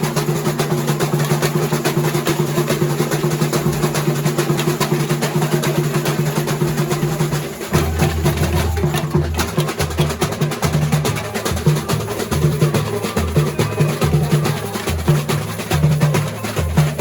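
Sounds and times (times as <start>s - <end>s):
fast samba drumming: 0.0s - 17.0s.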